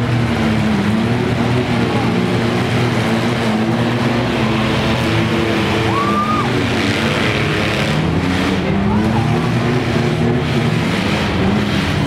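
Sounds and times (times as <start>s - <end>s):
small car engines revving: 0.0s - 12.0s.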